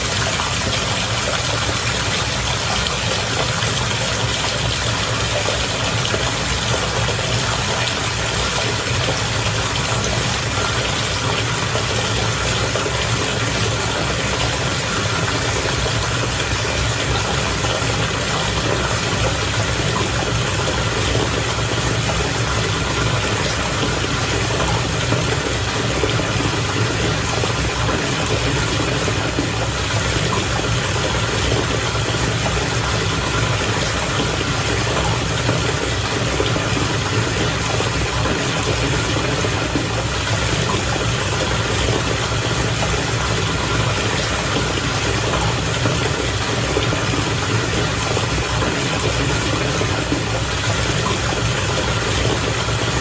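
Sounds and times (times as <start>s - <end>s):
bath water bubbling: 0.0s - 53.0s.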